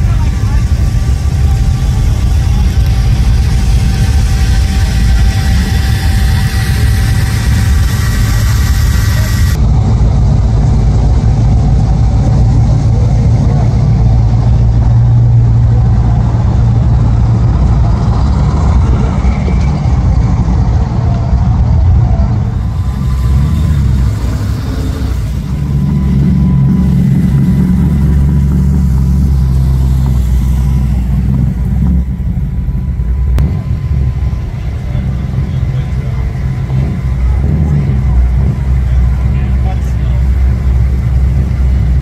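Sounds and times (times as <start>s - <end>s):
cars driving slowly past: 0.0s - 42.0s.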